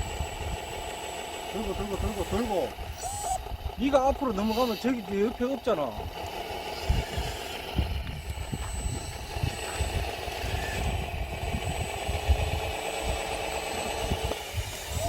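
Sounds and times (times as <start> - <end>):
small motor hum: 0.0 - 15.0.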